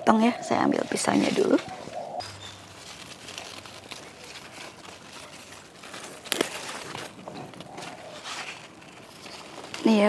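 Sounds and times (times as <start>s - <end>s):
faint rustling and crinkling: 0.2s - 10.0s.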